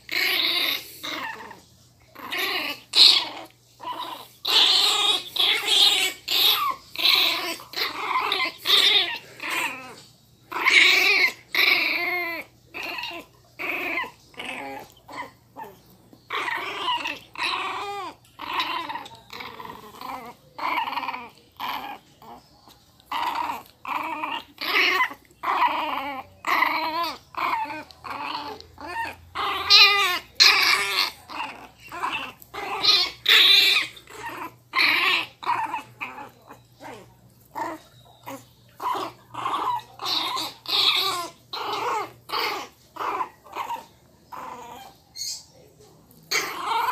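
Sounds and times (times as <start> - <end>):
puppy growling and yapping: 0.0 - 46.9.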